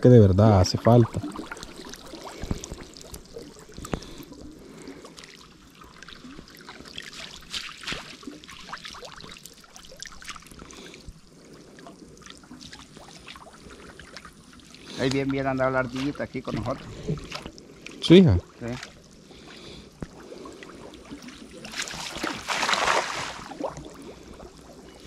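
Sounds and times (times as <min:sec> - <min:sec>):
faint water trickle: 0:00.2 - 0:25.0
water splashing and dripping: 0:00.7 - 0:25.0.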